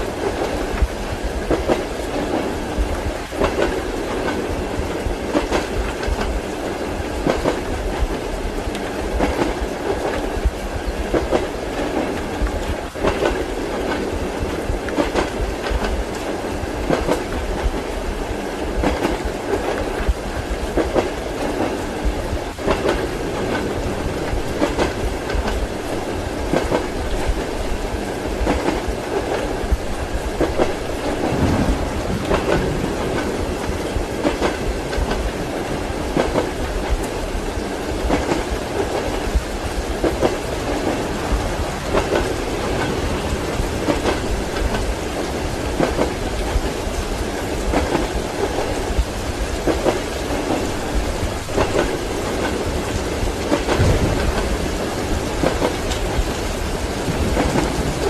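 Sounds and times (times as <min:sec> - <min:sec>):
rain hissing: 0:00.0 - 0:58.0
train wheels clacking over rail joints: 0:00.1 - 0:17.9, 0:18.7 - 0:58.0.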